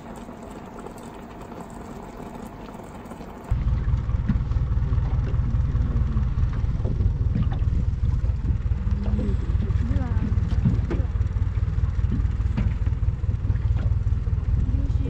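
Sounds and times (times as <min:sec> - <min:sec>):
low rumble aboard boat: 0:00.0 - 0:15.0.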